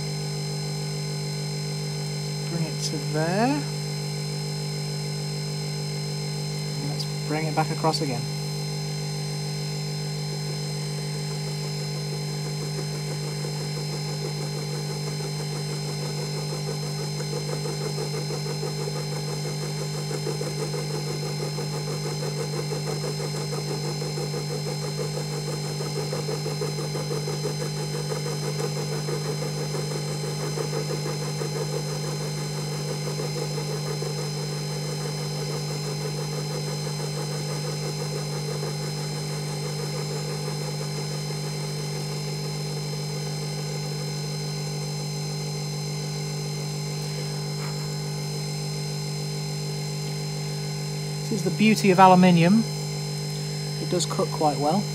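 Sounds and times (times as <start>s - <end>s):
mini mill motor hum and whine: 0.0s - 54.9s.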